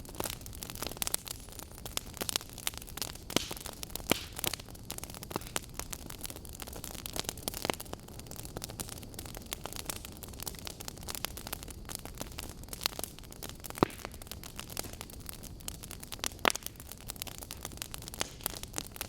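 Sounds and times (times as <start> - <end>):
burning logs crackling: 0.0 - 19.0.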